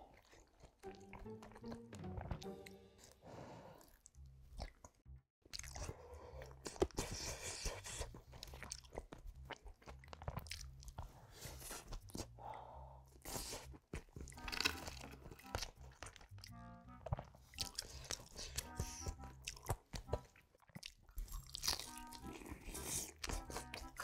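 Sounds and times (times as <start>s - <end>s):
person chewing and crunching food: 0.0s - 24.0s.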